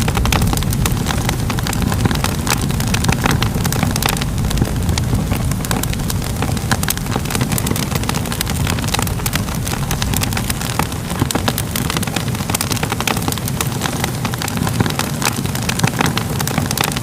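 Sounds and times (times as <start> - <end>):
fire pops and crackles: 0.0 - 17.0
low rumble of flames: 0.0 - 17.0.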